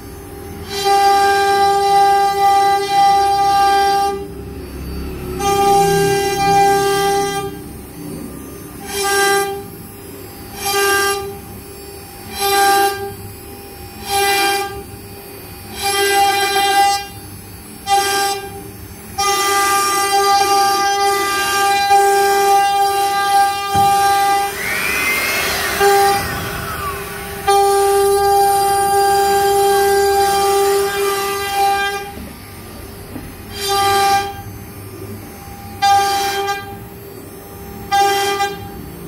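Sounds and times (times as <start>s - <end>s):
router spindle whine: 0.0s - 33.5s.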